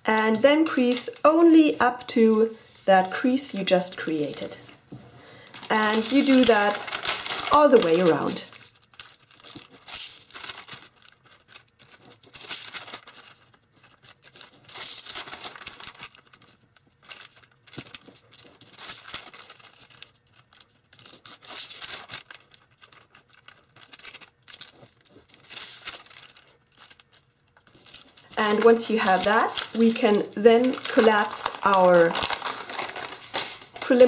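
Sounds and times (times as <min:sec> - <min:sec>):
foil paper crinkling: 0:00.0 - 0:34.0.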